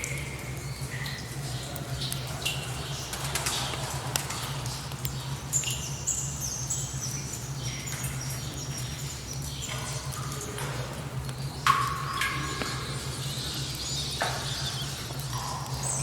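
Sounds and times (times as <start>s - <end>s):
water drips: 0.0s - 16.0s
low cave drone: 0.2s - 16.0s.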